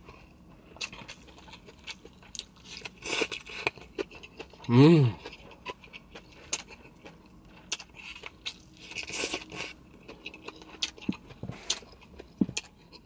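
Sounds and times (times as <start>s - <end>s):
person chewing noodles: 0.0s - 13.0s.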